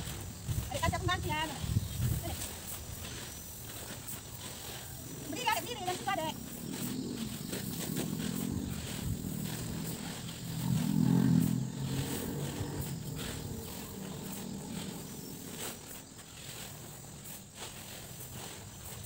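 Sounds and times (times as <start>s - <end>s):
insects buzzing: 0.0s - 19.0s
rustles and clicks: 0.0s - 19.0s.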